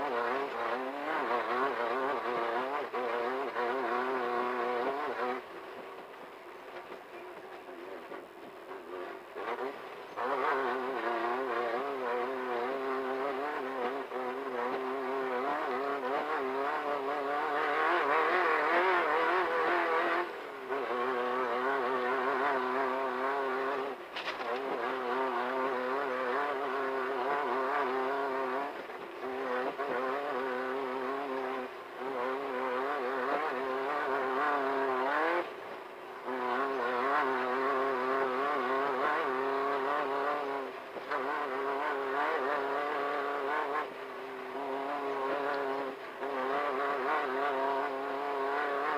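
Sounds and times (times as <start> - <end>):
race car engine revving hard: 0.0 - 5.5, 8.0 - 48.9.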